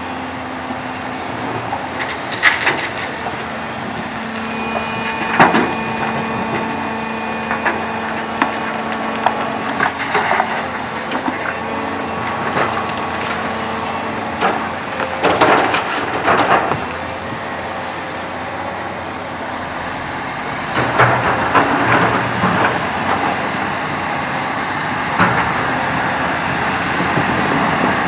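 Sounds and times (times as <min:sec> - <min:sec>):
excavator humming: 0:00.0 - 0:28.0.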